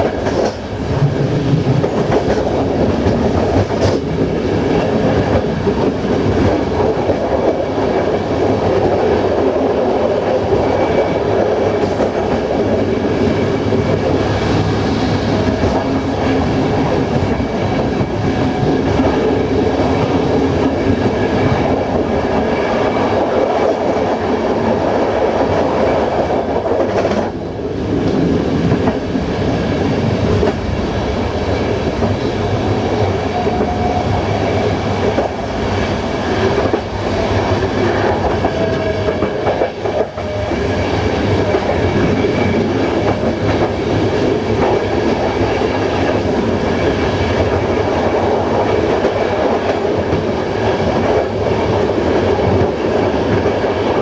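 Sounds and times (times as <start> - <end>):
clickety-clack over track joints: 0.0 - 30.8, 31.4 - 54.0
train wheels rumbling on rails: 0.0 - 54.0.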